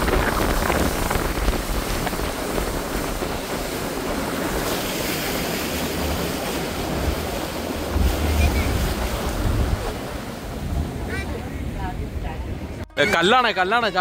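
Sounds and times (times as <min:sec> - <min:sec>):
wind buffeting microphone: 0:00.0 - 0:12.8
water rushing along hull: 0:00.0 - 0:14.0.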